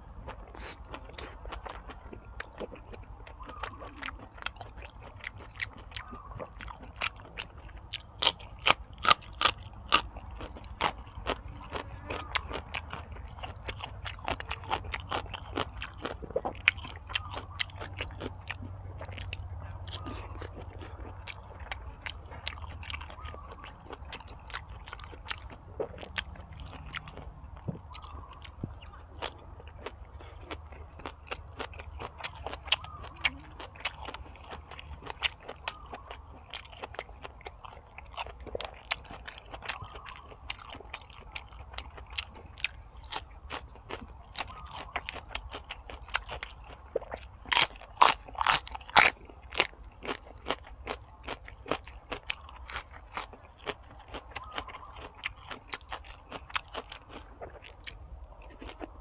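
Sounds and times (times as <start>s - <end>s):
chewing with wet mouth clicks: 0.0s - 59.0s
crunching raw vegetables: 0.0s - 59.0s.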